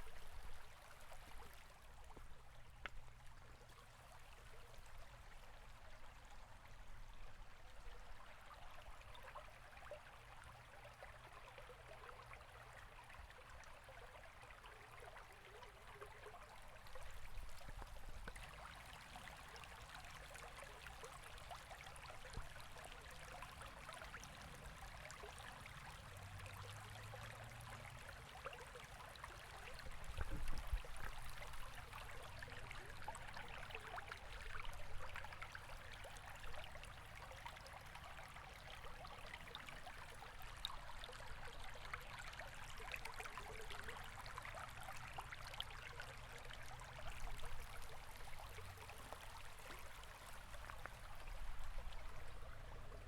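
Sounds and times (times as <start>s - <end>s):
river water babbling: 0.0s - 53.0s.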